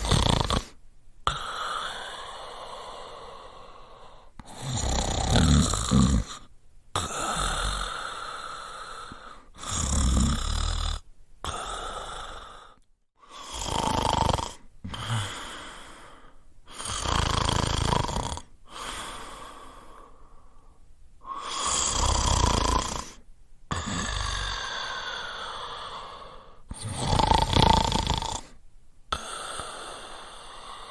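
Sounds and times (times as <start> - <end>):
quiet breath: 0.0 - 10.0, 11.0 - 13.7, 14.5 - 17.1, 18.4 - 22.3, 23.0 - 27.0, 28.4 - 30.9
person snoring: 0.0 - 30.9.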